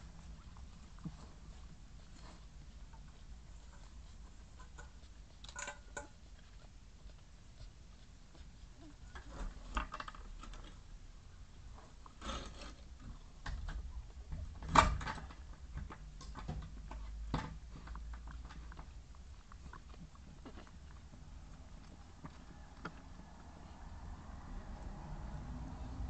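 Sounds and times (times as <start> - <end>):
faint rustling: 0.0 - 24.9
dog licking puppies: 0.0 - 26.0.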